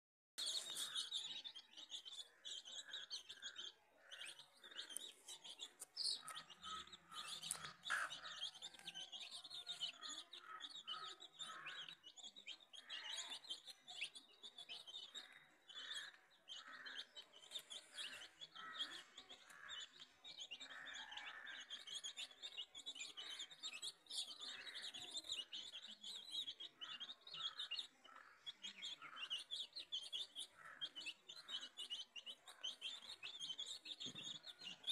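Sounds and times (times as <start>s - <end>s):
chicks peeping: 0.4s - 34.9s.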